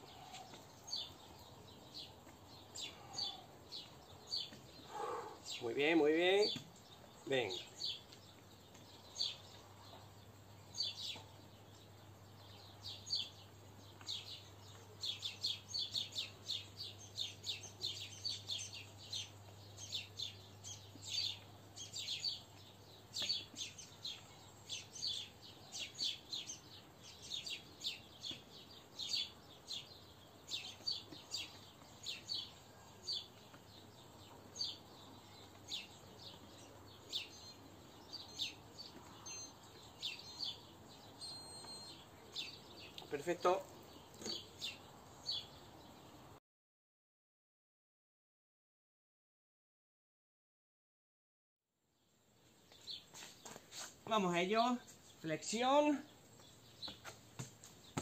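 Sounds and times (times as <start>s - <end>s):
small birds chirping: 0.0s - 46.4s, 52.0s - 58.0s.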